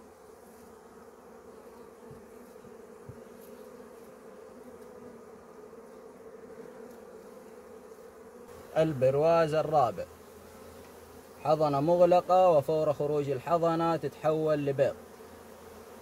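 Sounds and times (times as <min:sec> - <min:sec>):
bees buzzing in hive: 0:00.0 - 0:16.0.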